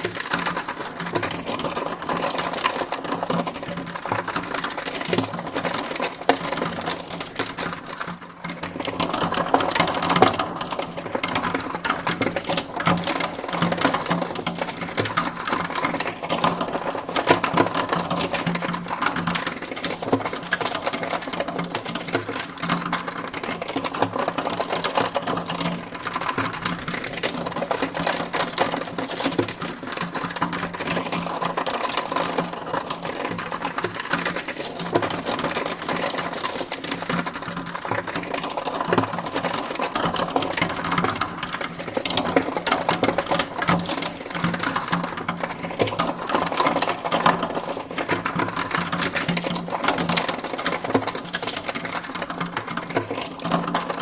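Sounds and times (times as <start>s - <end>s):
fast mechanical clatter: 0.0s - 54.0s.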